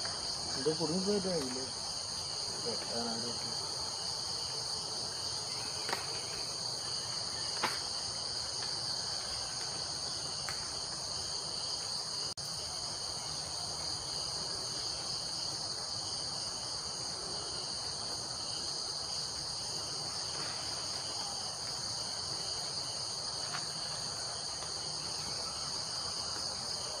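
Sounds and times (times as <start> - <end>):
forest insects chorus: 0.0 - 27.0.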